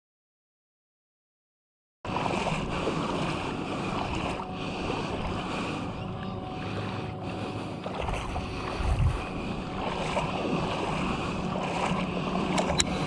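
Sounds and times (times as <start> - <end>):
shallow water lapping: 2.1 - 13.0
wind buffeting microphone: 2.1 - 13.0.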